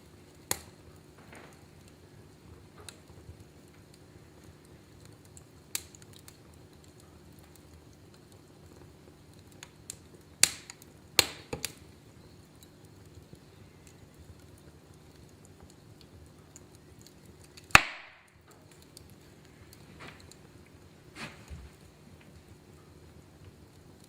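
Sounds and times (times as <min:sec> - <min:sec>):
low burning murmur: 0:00.0 - 0:24.0
wood fire popping and snapping: 0:00.0 - 0:24.0.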